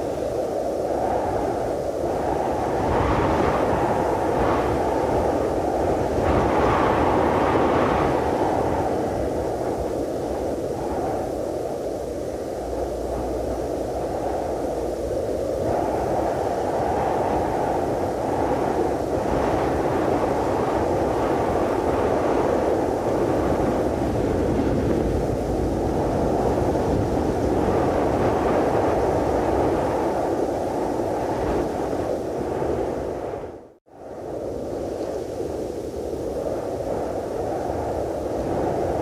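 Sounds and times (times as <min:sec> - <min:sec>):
rushing wind: 0:00.0 - 0:39.0.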